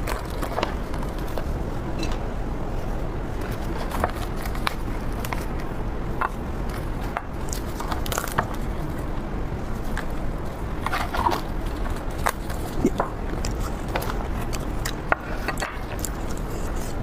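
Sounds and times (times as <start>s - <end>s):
steady low hum: 0.0s - 17.0s
fruit crackling while opened: 2.8s - 17.0s.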